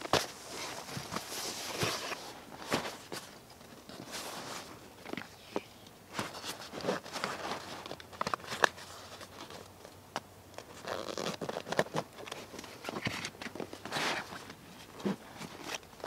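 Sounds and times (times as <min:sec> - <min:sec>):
close-up rustling and crinkling: 0:00.0 - 0:16.0.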